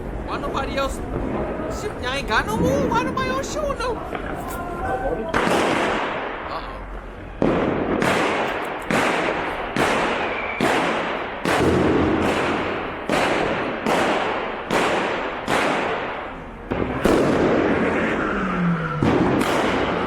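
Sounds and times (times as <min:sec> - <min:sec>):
fireworks exploding: 0:00.0 - 0:20.0.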